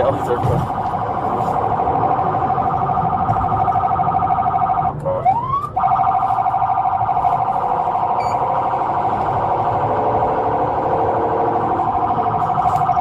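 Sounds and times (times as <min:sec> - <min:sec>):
car rumble: 0:00.0 - 0:13.0
police siren warbling: 0:00.6 - 0:13.0.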